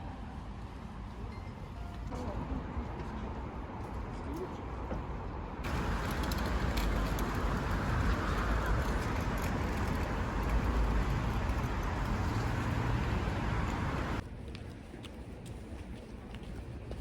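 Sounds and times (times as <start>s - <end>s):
road noise rumble and hiss: 0.0s - 17.0s.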